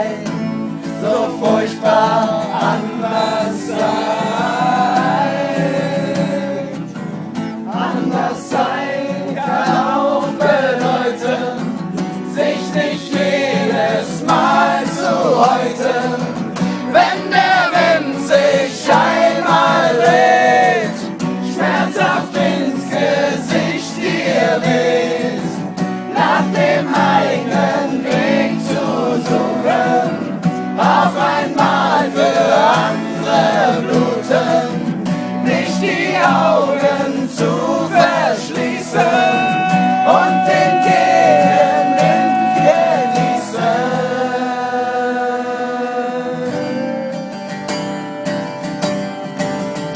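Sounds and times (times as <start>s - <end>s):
group singing: 0.0s - 47.9s
guitar: 0.0s - 49.9s.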